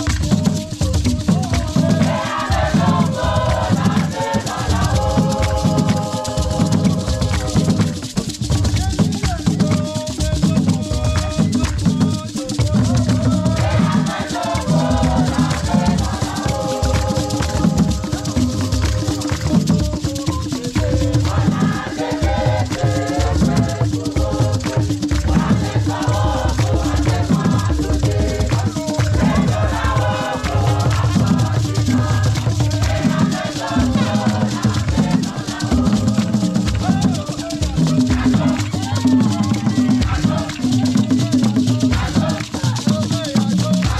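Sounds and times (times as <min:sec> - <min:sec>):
drum ensemble fast rhythm: 0:00.0 - 0:43.9
group singing: 0:00.0 - 0:43.9
shaker rattle: 0:00.0 - 0:43.9.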